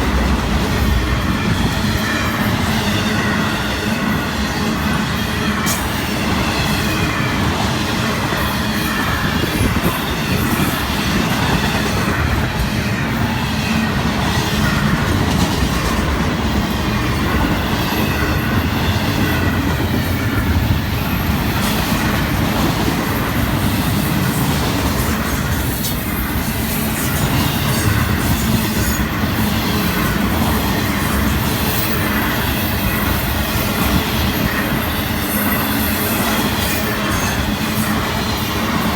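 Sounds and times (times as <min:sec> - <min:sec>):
train wheels on rails: 0:00.0 - 0:38.9.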